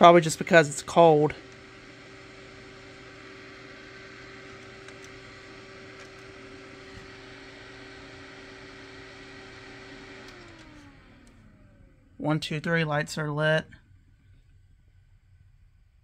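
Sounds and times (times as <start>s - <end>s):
computer fans whirring hum: 0.0s - 16.0s.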